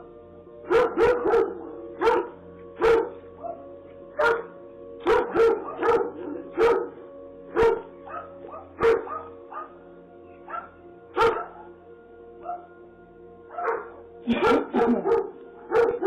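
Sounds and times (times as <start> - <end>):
dog barking: 0.7 - 9.8, 10.5 - 11.7, 12.4 - 12.7, 13.5 - 16.0.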